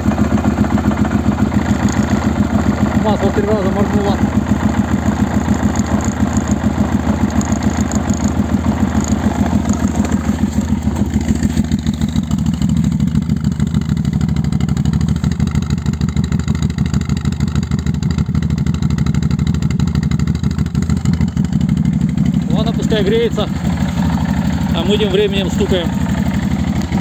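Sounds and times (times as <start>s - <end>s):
quad bike engine idling: 0.0s - 27.0s.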